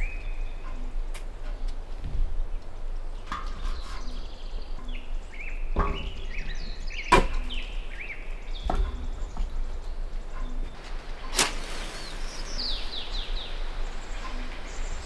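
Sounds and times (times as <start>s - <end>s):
birds chirping: 0.0s - 15.0s
wind rumbling on microphone: 0.0s - 15.0s.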